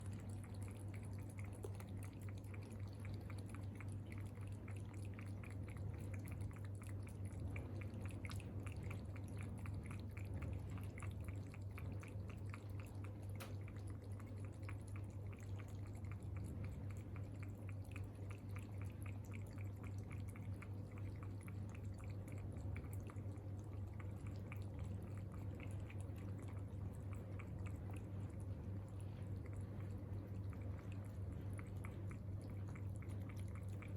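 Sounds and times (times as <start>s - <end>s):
cat chewing food: 0.0s - 33.9s
steady low hum: 0.0s - 33.9s.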